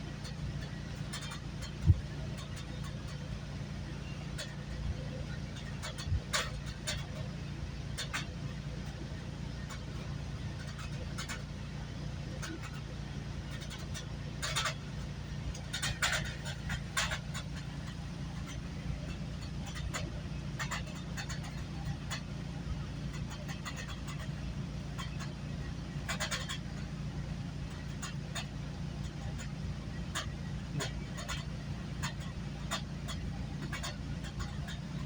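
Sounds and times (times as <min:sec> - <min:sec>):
train clicks and rattles: 0:00.0 - 0:35.0.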